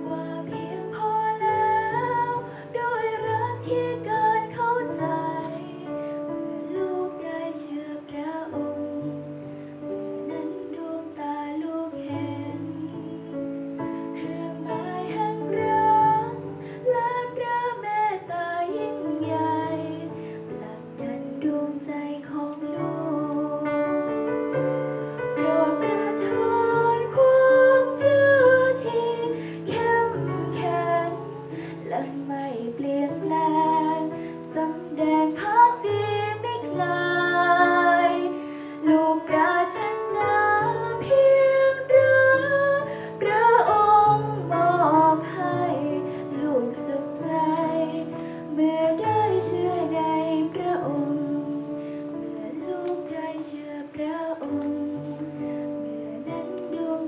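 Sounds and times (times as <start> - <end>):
girl singing into a microphone: 0.0 - 57.0.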